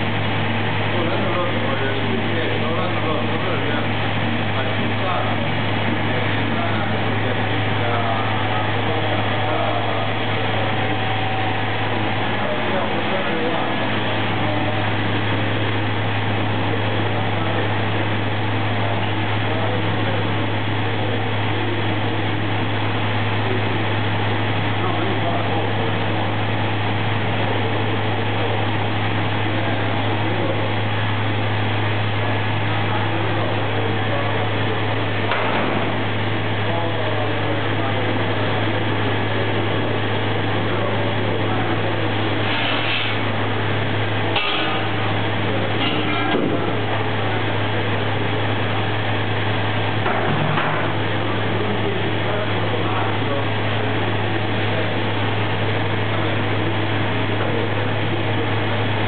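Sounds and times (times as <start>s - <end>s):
mill machinery droning: 0.0s - 59.0s.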